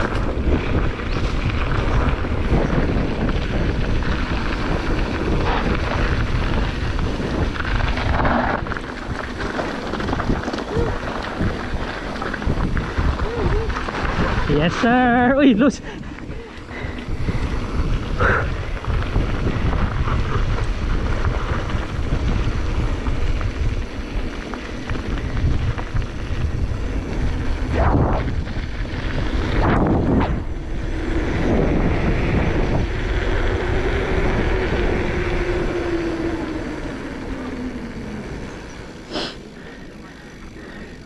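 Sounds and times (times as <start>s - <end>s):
mountain bike rumbling on dirt: 0.0s - 41.0s
wind buffeting microphone: 0.0s - 41.0s.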